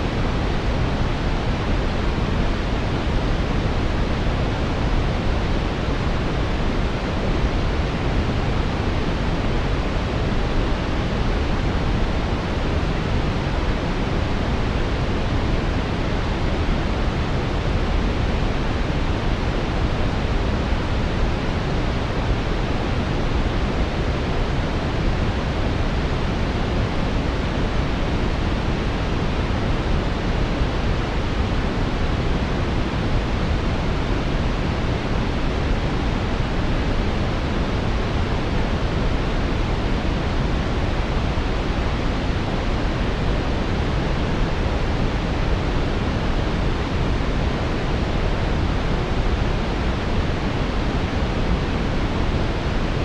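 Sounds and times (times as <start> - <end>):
deep brown noise hiss: 0.0 - 53.0.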